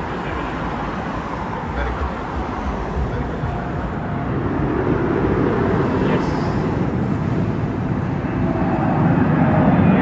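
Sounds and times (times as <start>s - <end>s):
jet airliner rumble: 0.0s - 10.0s.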